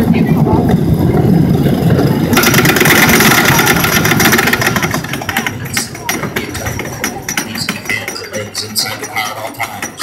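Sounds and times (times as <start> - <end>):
roller coaster train rattling: 0.0 - 10.0.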